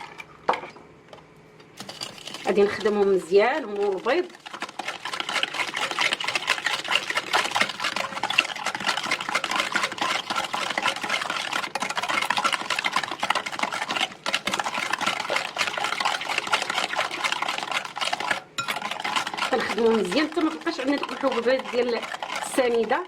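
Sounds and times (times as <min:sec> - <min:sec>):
eggs being beaten in a bowl: 0:01.8 - 0:23.0.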